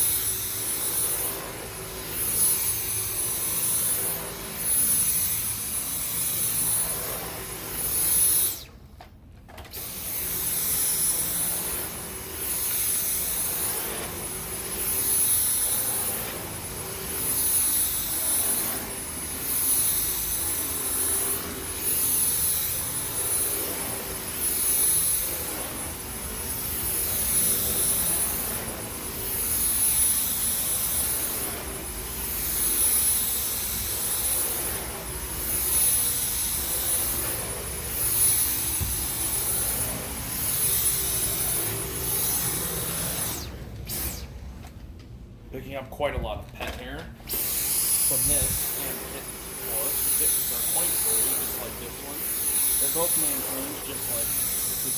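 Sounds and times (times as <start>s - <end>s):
vacuum cleaner motor whine: 0.0s - 45.0s, 46.7s - 54.9s.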